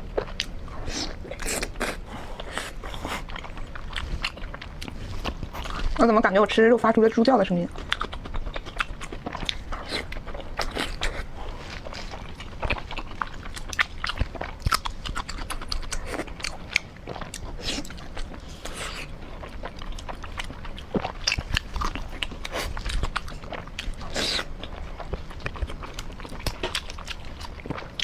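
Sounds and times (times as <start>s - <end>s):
person chewing with wet smacking: 0.0s - 6.2s, 7.5s - 28.0s.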